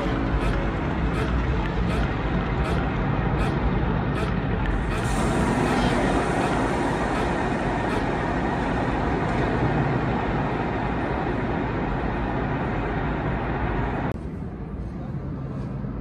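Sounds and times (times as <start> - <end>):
fire roaring over speakers: 0.2 - 14.2.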